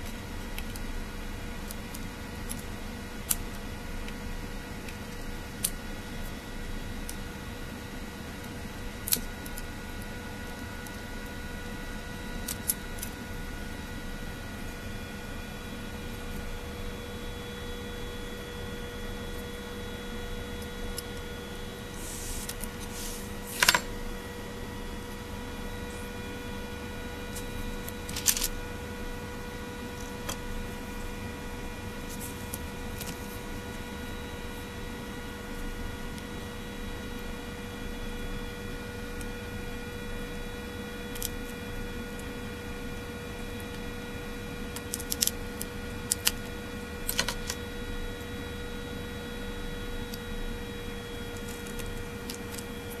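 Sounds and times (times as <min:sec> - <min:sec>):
steady electrical hum: 0:00.0 - 0:53.0.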